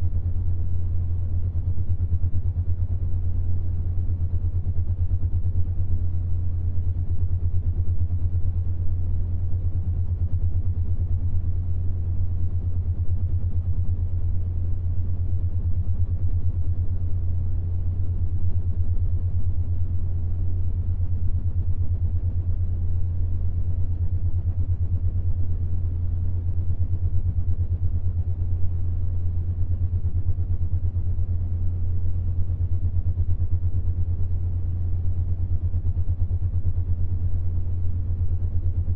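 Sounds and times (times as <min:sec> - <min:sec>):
pulsing low tone hum: 0:00.0 - 0:38.9.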